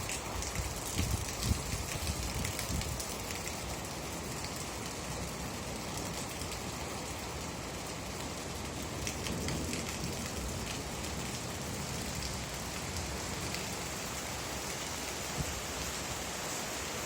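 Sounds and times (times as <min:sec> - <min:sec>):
raindrops striking a surface: 0:00.0 - 0:17.0
steady rain hiss: 0:00.0 - 0:17.0.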